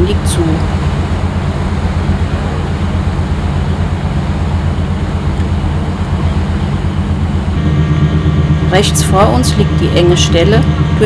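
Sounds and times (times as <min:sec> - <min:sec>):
ship engine rumble: 0:00.0 - 0:11.0.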